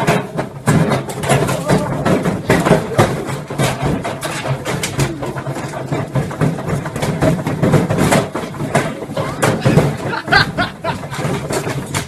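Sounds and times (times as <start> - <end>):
washing machine knocking and rattling: 0.0 - 12.0.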